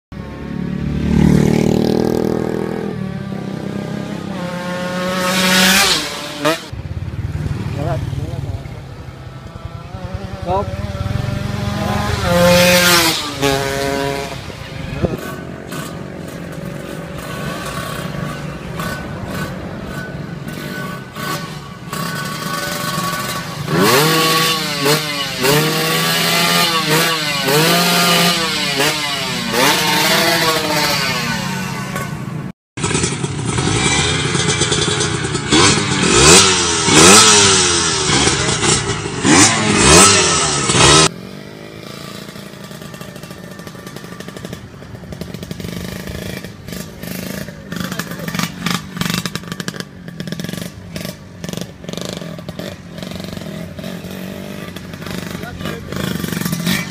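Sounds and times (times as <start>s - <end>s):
motorcycle engines revving: 0.2s - 56.9s.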